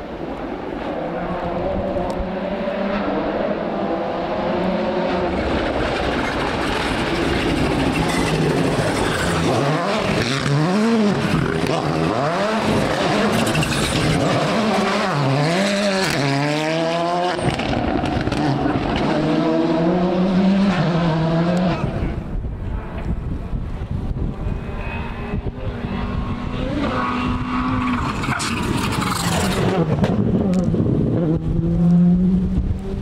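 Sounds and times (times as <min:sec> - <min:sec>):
rally car engine revving: 0:00.8 - 0:33.0.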